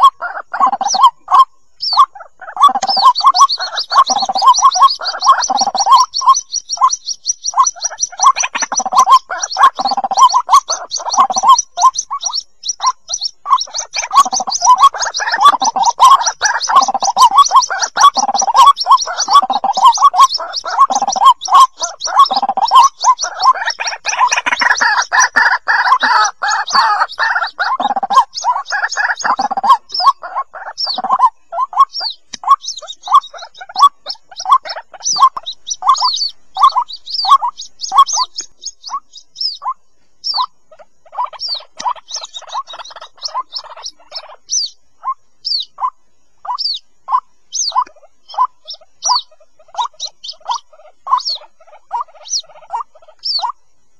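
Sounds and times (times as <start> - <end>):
chicks peeping: 0.0 - 53.8
lower bird calls: 0.0 - 53.9.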